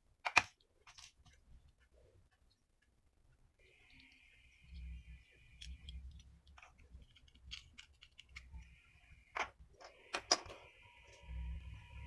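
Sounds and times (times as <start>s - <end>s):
small parts clicking and tapping: 0.2s - 11.3s.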